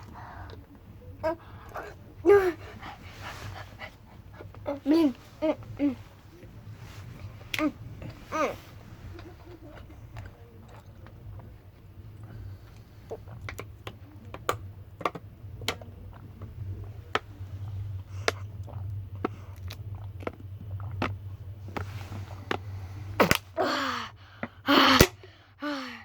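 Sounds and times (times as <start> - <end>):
train carriage hum: 0.0 - 13.1, 13.7 - 23.5.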